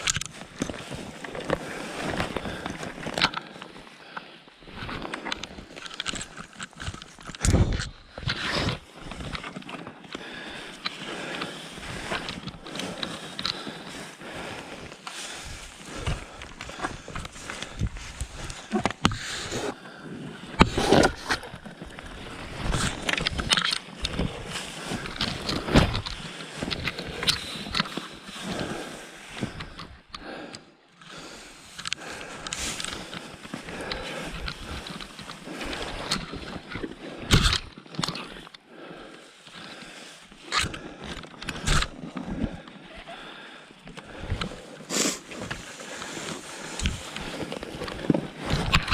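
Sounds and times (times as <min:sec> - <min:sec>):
ice crunching and scraping: 0:00.0 - 0:30.1, 0:31.0 - 0:38.6, 0:39.2 - 0:48.9.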